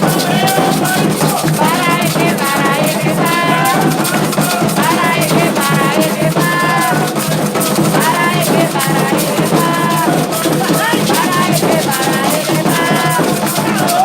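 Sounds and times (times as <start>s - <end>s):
drums: 0.0s - 14.0s
rattles: 0.0s - 14.0s
voices singing a chant: 0.0s - 14.0s.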